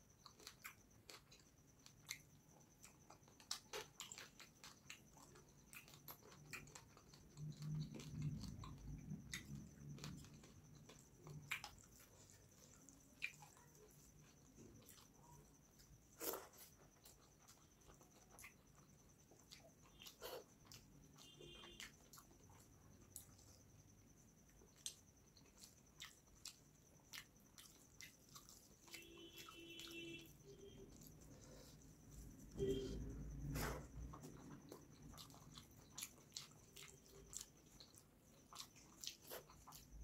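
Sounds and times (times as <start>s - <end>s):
wet chewing sounds: 0.0s - 40.0s.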